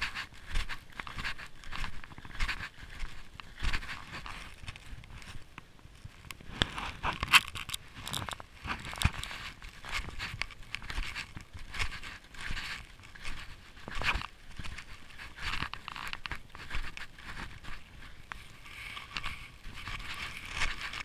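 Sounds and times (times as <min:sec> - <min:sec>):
snowshoe footsteps crunching snow: 0:00.0 - 0:21.0.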